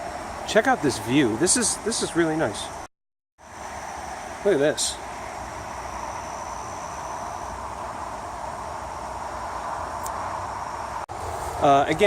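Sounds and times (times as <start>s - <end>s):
distant highway traffic hiss: 0.0s - 12.0s
high insect drone: 0.0s - 12.0s.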